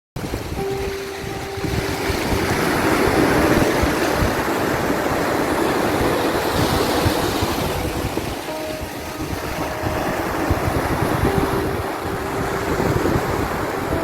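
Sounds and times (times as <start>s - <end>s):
sea waves washing ashore: 0.2s - 14.0s.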